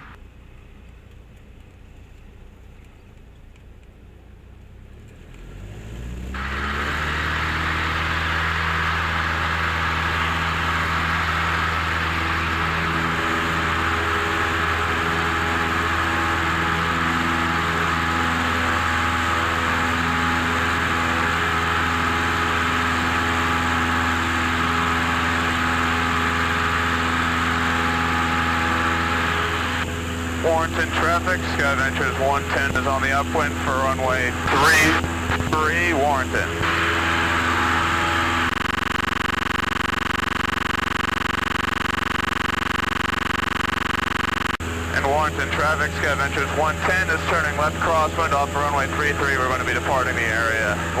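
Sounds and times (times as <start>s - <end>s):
light aircraft engine revving up: 0.0s - 51.0s.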